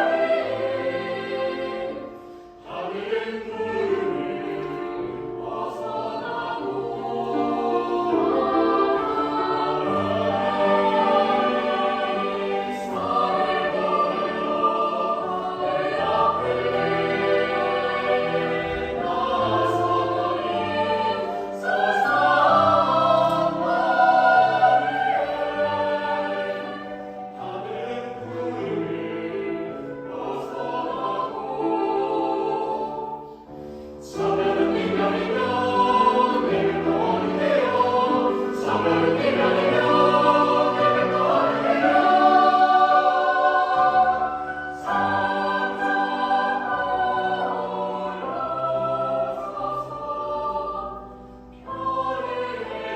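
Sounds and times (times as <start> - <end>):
choir singing in harmony: 0.0 - 52.9.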